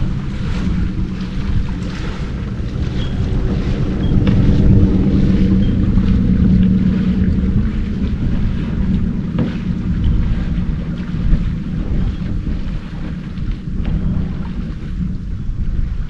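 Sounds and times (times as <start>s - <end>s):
paddle splashes: 0.0s - 16.0s
wind buffeting microphone: 0.0s - 16.0s.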